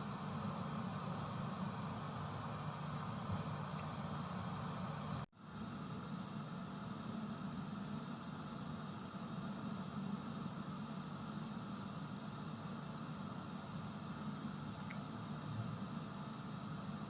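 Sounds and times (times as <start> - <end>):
gas heater hissing: 0.0 - 17.0.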